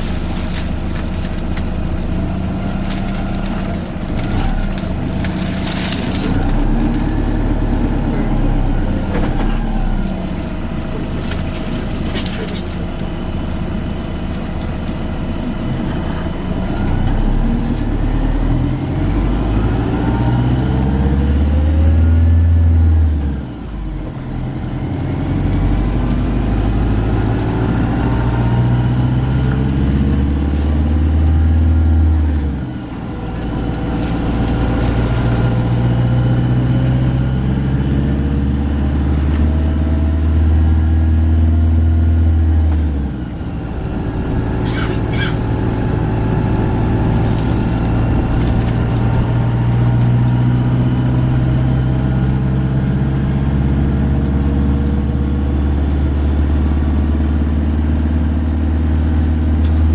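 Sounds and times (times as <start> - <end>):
bus engine low note: 0.0 - 59.9.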